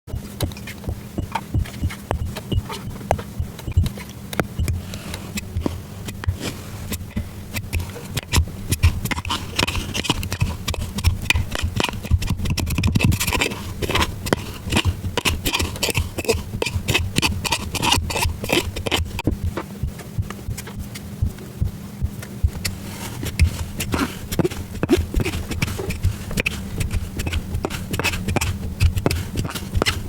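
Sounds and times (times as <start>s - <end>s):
steady low hum: 0.1s - 30.0s.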